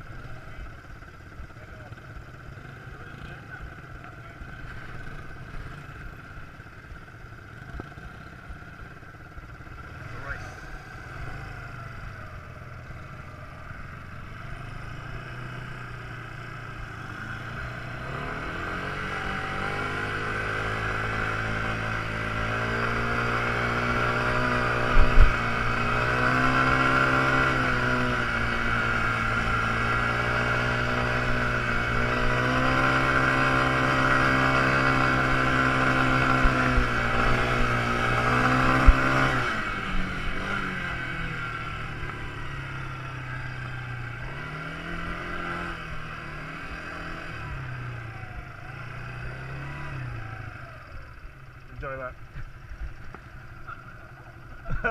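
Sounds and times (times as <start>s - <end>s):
quad bike engine: 0.0s - 54.9s.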